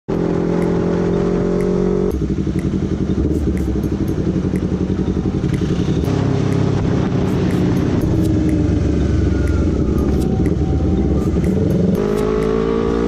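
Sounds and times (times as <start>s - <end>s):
motorcycle engine revving and idling: 0.1s - 13.0s.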